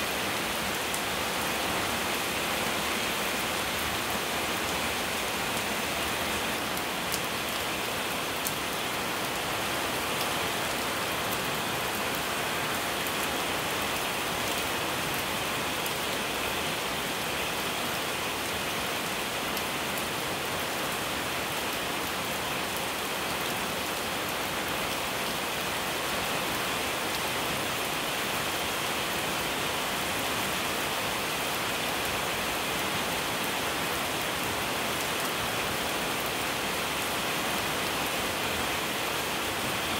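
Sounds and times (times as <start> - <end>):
rain on paving and trees: 0.0 - 39.9.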